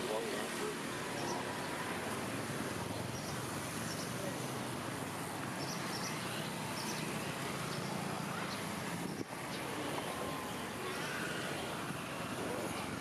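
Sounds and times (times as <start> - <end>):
people's voices: 0.0 - 13.0
scooter engines passing: 0.0 - 13.0.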